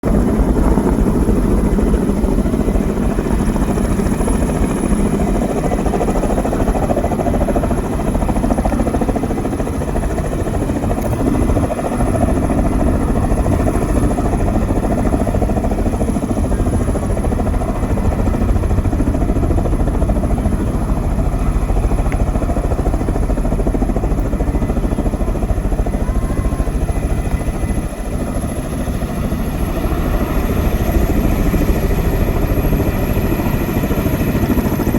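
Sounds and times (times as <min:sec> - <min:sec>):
helicopter hovering: 0:00.0 - 0:34.9.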